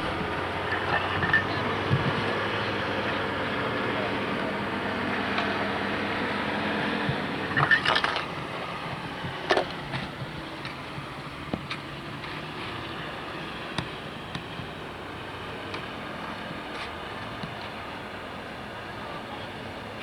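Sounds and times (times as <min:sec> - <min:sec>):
motor vehicle running: 0:00.0 - 0:20.0.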